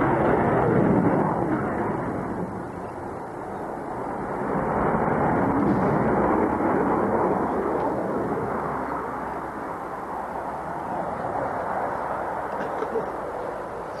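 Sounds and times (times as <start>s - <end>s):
jet engine rushing: 0.0s - 14.0s.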